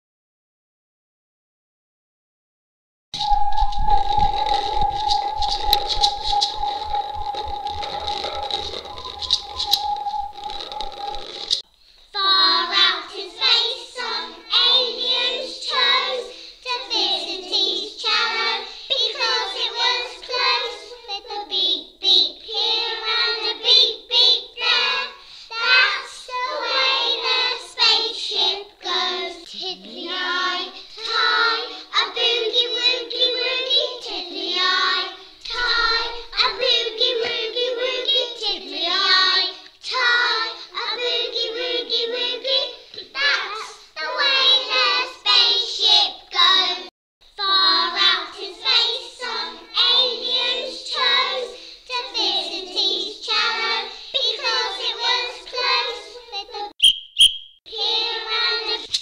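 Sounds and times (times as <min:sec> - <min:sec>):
young children singing: 0:03.2 - 0:11.6, 0:12.2 - 0:56.7, 0:57.7 - 0:59.0.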